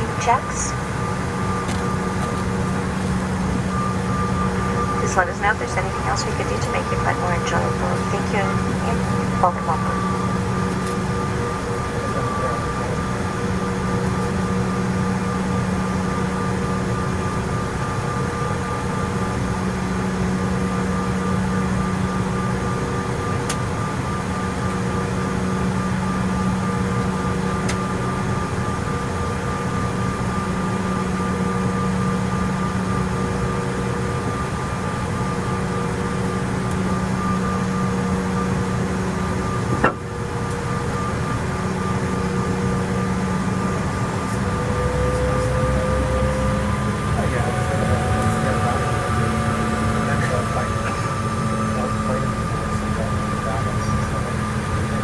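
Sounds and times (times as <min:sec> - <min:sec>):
constant whining tones: 0:00.0 - 0:55.0
jet cabin hum: 0:00.0 - 0:55.0.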